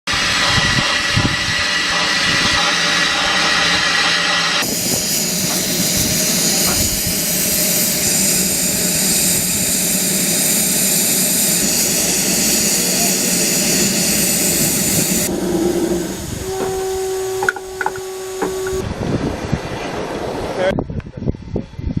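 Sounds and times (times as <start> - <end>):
loud hissing machinery running: 0.1 - 18.9.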